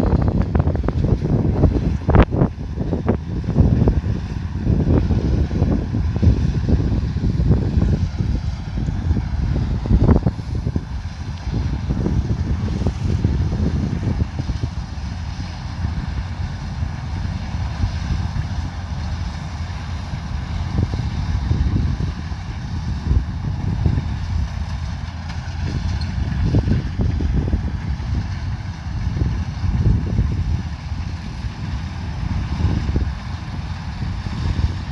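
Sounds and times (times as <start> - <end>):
diesel engine running: 0.0 - 34.9
wind rumble on microphone: 0.0 - 34.9.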